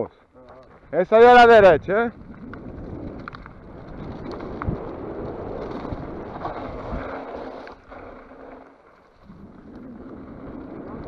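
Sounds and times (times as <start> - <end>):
mountain bike rattling on trail: 0.7 - 11.0
wind rushing over microphone: 0.8 - 8.0, 9.2 - 11.0.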